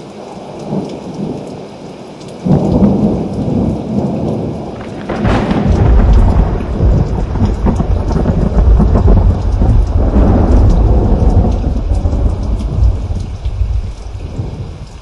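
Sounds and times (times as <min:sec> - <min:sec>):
steady rain: 0:00.0 - 0:15.0
thunder rumbling: 0:02.4 - 0:15.0.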